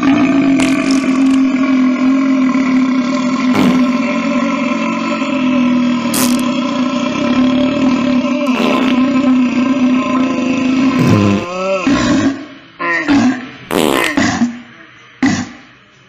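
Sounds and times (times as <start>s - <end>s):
man's long belch: 0.0s - 15.7s.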